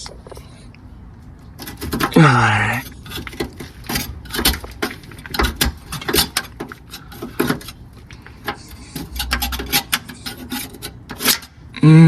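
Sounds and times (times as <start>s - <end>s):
clicks and scrapes on metal: 1.5s - 11.6s.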